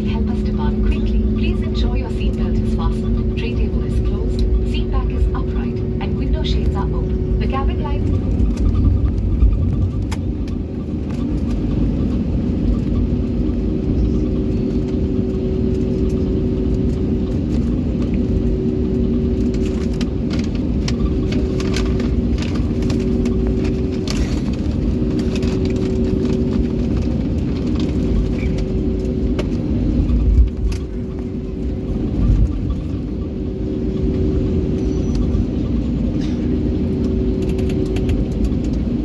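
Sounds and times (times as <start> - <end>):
jet engines rumbling: 0.0 - 39.0.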